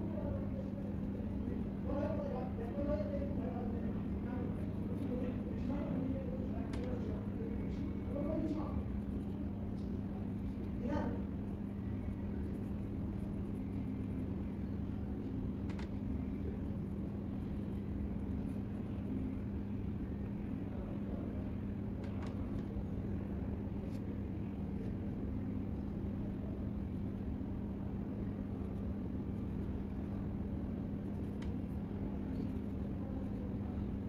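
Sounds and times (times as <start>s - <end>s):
constant hum: 0.0s - 34.0s
low background rumble: 0.0s - 34.0s.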